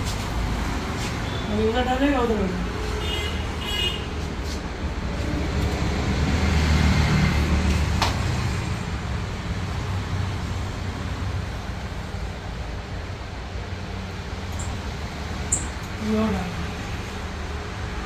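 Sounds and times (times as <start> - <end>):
motor vehicle rumble: 0.0 - 18.0.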